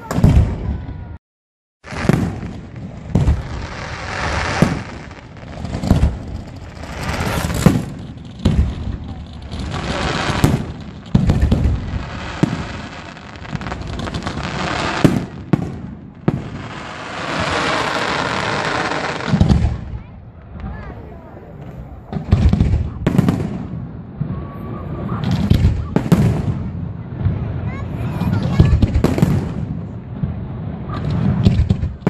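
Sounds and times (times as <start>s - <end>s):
fireworks shells booming: 1.8s - 20.7s, 21.6s - 27.6s, 28.2s - 32.0s
fireworks crackling: 1.8s - 32.0s.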